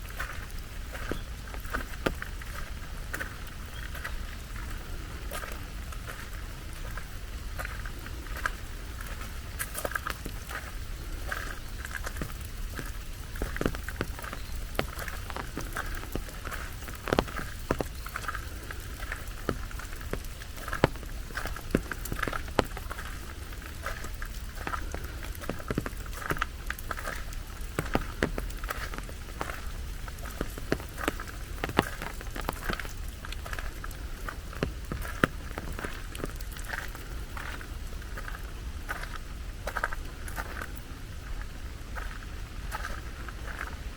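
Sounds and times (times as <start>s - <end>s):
low steady rumble: 0.0s - 43.9s
rain falling: 0.0s - 43.9s.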